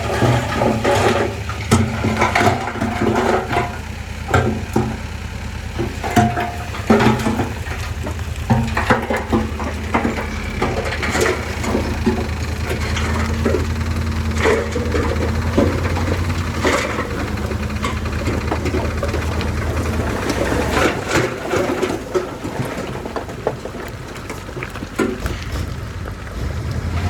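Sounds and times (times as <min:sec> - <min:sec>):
bulldozer diesel engine drone: 0:00.0 - 0:27.0
clanks knocks and crunching: 0:00.0 - 0:27.0.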